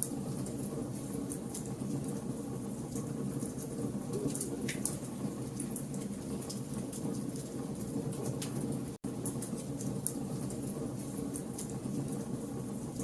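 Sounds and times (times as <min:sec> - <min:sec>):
low rumble of flame: 0:00.0 - 0:13.0.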